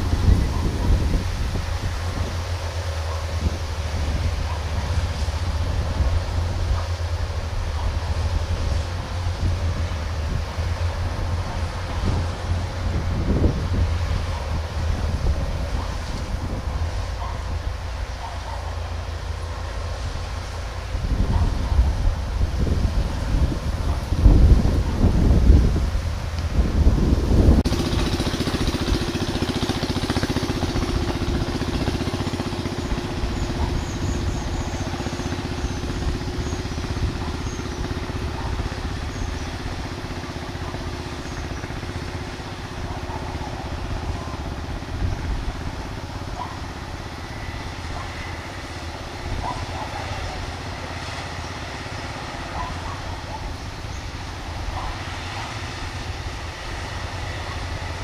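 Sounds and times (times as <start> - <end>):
combine harvester engine rumble: 0.0 - 58.0.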